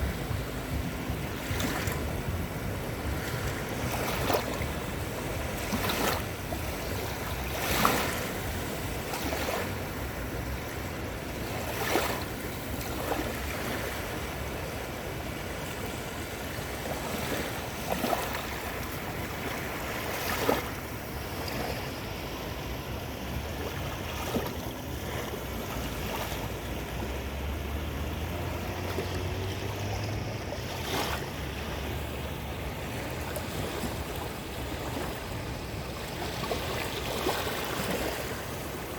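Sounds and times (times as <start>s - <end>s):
surf hissing on shore: 0.0s - 38.9s
waves splashing: 0.0s - 38.9s.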